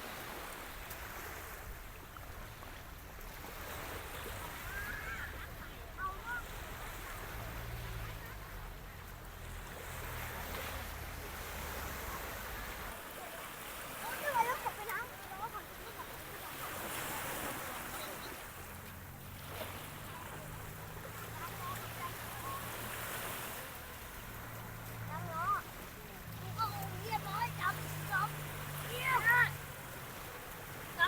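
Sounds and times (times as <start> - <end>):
sea surf washing onto beach: 0.0 - 31.0.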